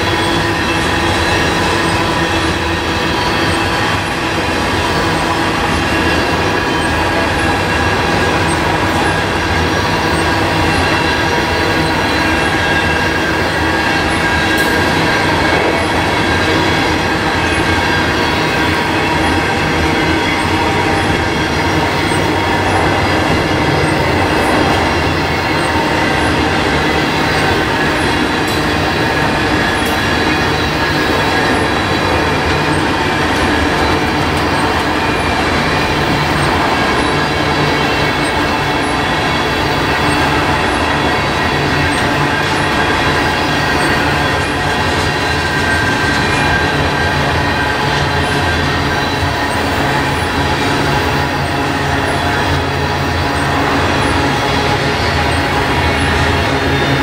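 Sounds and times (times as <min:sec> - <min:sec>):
train wheels rumbling and rattling: 0:00.0 - 0:57.0.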